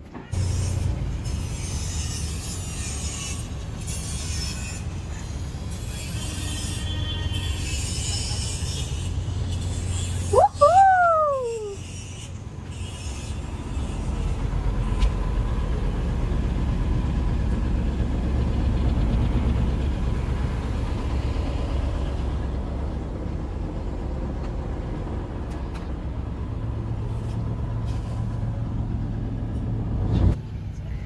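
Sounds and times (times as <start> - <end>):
boat engine rumbling: 4.9 - 31.0.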